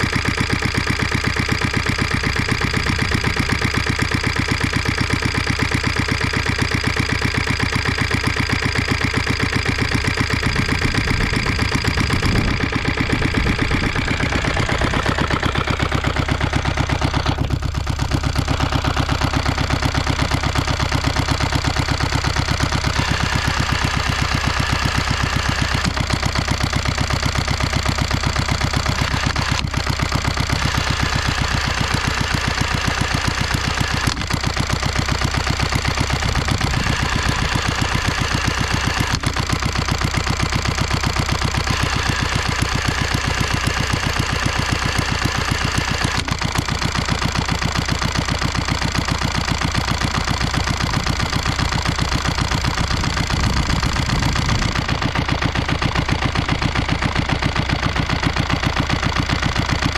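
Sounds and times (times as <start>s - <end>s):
marine engine running: 0.0s - 59.9s.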